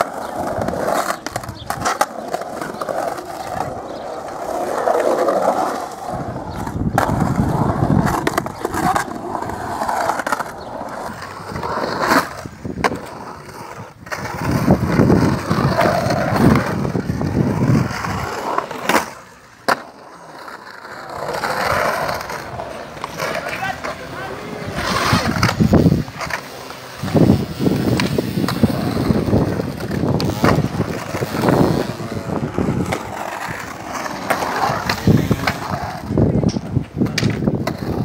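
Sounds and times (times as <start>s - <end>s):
skateboard clacking on concrete: 0.0s - 38.0s
skateboard wheels rolling on concrete: 0.0s - 38.0s.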